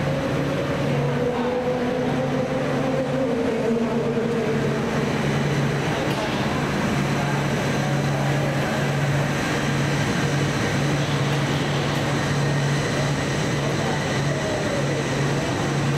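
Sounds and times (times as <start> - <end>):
people-mover train rolling: 0.0 - 15.9.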